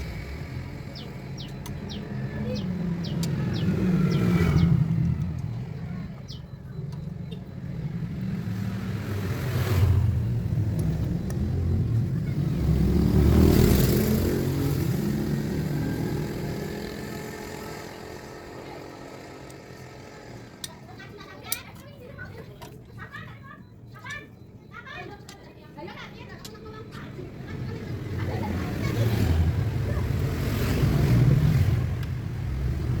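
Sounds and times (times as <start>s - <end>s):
vehicles passing by: 0.0s - 33.0s.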